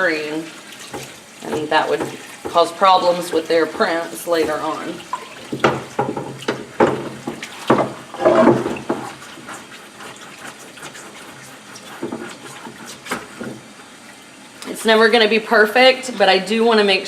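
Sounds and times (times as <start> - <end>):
tap water splashing: 0.0 - 15.0.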